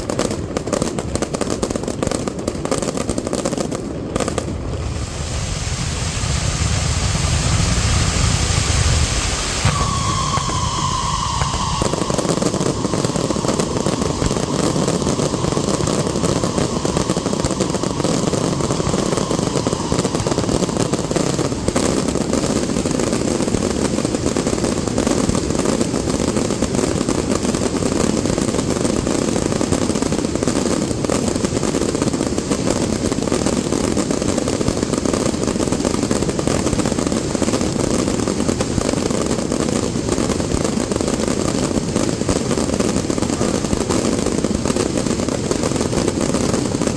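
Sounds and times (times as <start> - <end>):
faint firework whistle: 0.0 - 46.9
fireworks bangs and crackling: 0.0 - 46.9.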